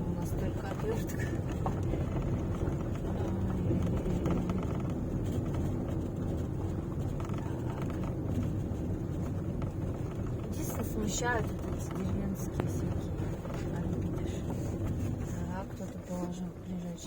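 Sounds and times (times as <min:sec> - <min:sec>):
car engine and road rumble: 0:00.0 - 0:17.0
rattling inside car: 0:00.0 - 0:17.0.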